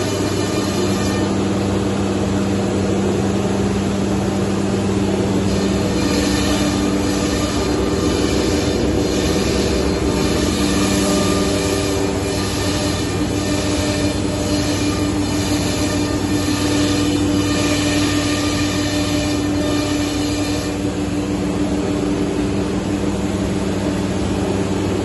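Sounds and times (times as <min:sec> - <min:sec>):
router machine running: 0:00.0 - 0:23.2
higher hum tone: 0:00.0 - 0:25.0.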